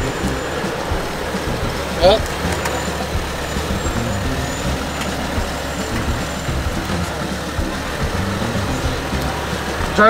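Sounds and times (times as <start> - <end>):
truck engine running at low revs: 0.0 - 10.0.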